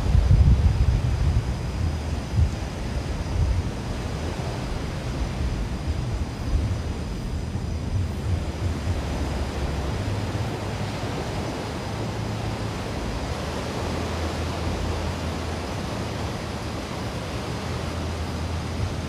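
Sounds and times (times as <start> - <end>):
ocean surf breaking: 0.0 - 19.0
wind buffeting the microphone: 0.0 - 19.0.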